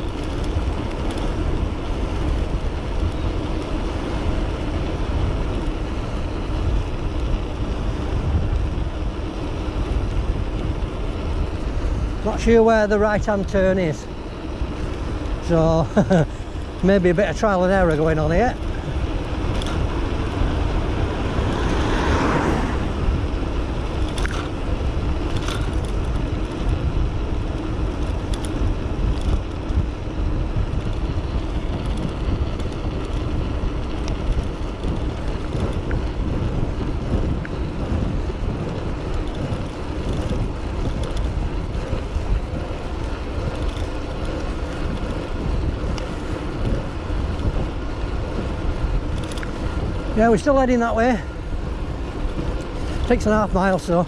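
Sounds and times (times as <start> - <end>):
traffic noise: 0.0 - 54.0
wind on microphone: 0.0 - 54.0.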